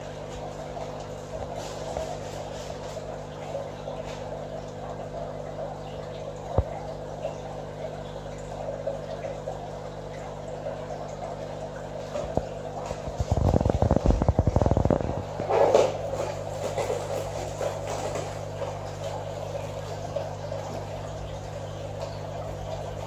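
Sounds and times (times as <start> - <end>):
aquarium pump hum: 0.0 - 23.0
water burbling: 0.0 - 23.0.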